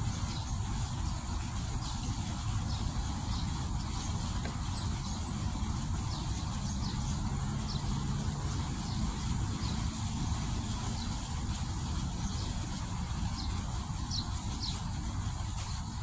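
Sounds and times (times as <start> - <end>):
fountain jets splashing: 0.0 - 16.0
low steady rumble: 0.0 - 16.0.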